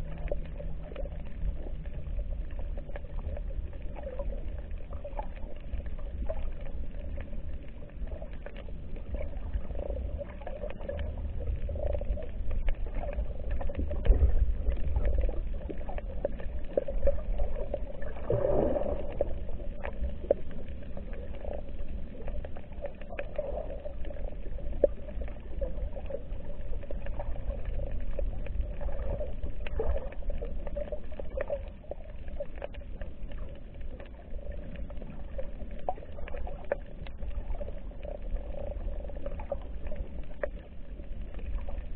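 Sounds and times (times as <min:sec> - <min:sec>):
low rumble of moving water: 0:00.0 - 0:41.9
small clicks and crackles: 0:00.0 - 0:41.9.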